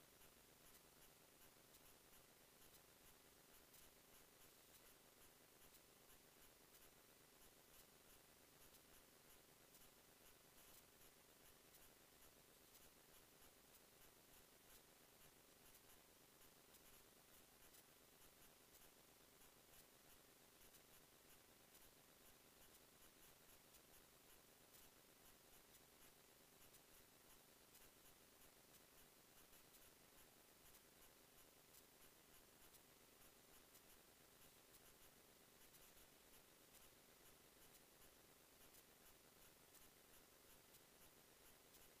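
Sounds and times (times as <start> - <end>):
faint steady hiss: 0.0 - 42.0
faint ticks: 0.0 - 42.0.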